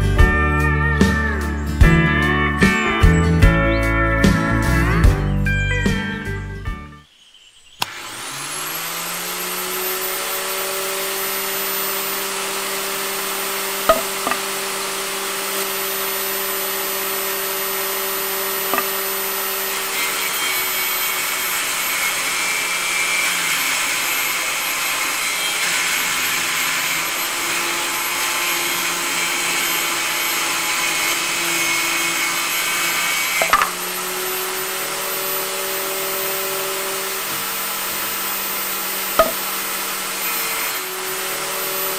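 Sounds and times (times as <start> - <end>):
small electric circular saw whining: 7.0 - 41.9
saw blade rasping through branch: 7.8 - 41.9.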